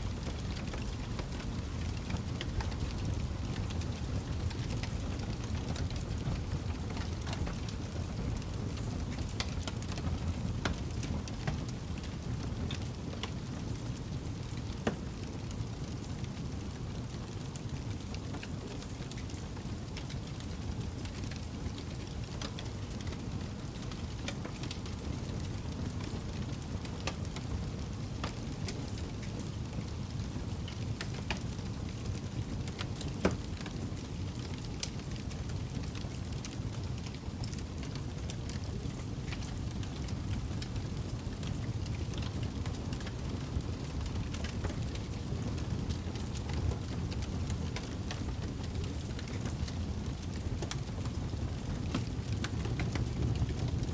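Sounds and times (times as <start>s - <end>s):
campfire wood crackling: 0.0s - 53.9s
low fire rumble: 0.0s - 53.9s.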